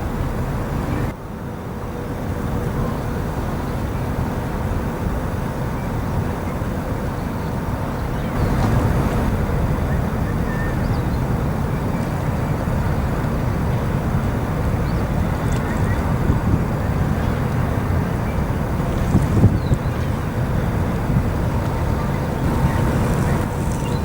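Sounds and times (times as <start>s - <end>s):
ship engines rumbling: 1.9s - 24.0s.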